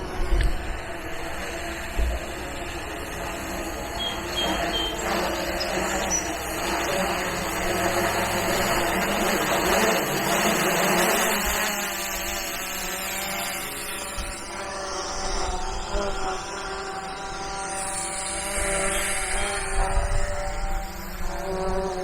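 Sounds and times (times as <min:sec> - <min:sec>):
drone propellers whirring: 0:00.0 - 0:22.0.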